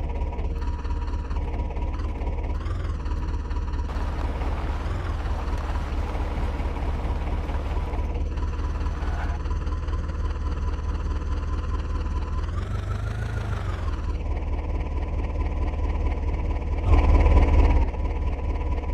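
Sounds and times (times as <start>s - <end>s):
diesel tractor engine running: 0.0s - 18.8s.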